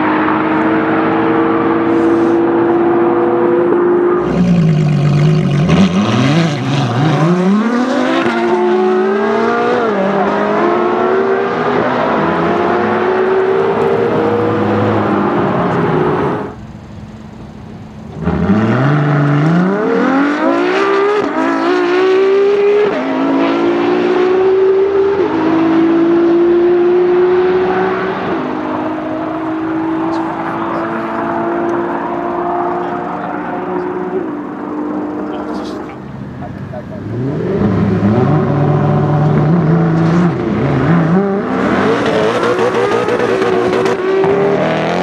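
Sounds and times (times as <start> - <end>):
sports car engines accelerating: 0.0 - 45.0.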